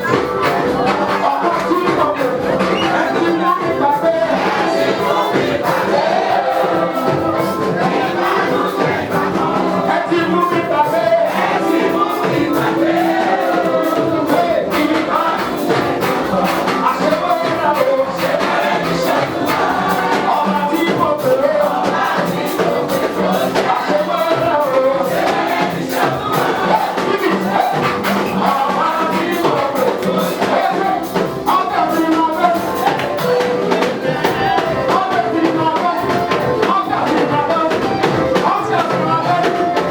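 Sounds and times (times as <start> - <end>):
band with drums and percussion: 0.0 - 39.9
voices singing gospel music: 0.0 - 39.9.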